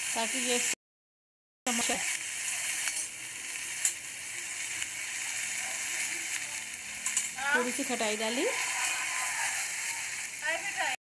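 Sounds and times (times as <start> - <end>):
okra and onion sizzling in oil: 0.0 - 0.8, 1.7 - 11.0.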